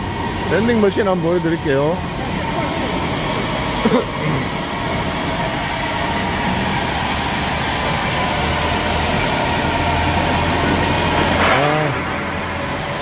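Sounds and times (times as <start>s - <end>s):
machinery rumble and drone: 0.0s - 13.0s.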